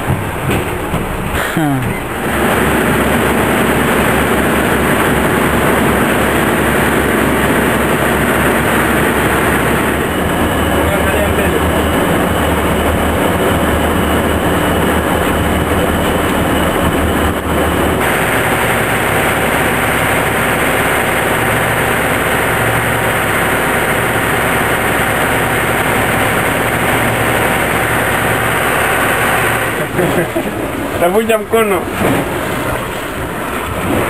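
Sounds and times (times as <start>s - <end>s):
boat engine running: 0.0s - 34.0s
water noise: 0.0s - 34.0s
wind: 0.0s - 34.0s.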